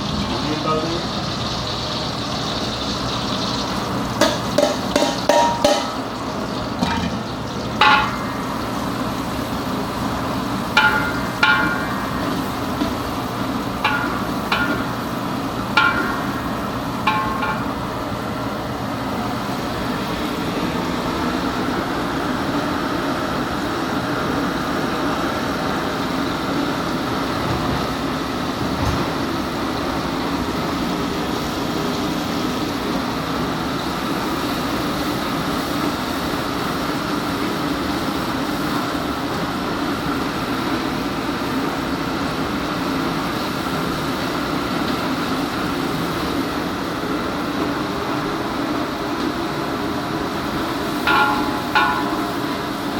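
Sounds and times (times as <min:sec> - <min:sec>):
onions sizzling in oil: 0:00.0 - 0:52.9.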